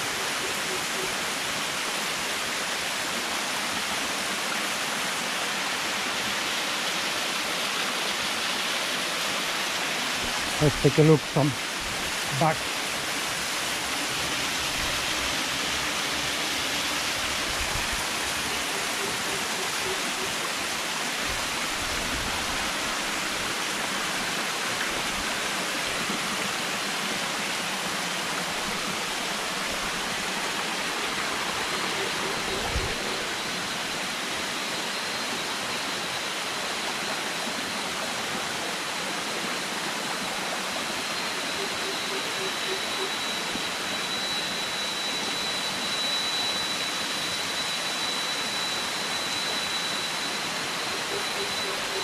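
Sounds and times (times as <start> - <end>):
waterfall rushing over rocks: 0.0 - 52.0.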